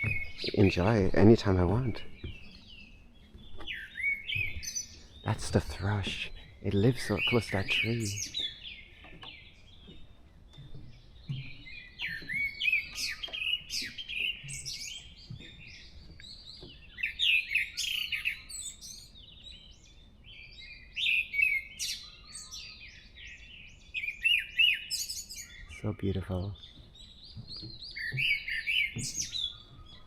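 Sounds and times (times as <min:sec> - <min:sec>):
thrush singing chirps and whistles: 0:00.0 - 0:30.0.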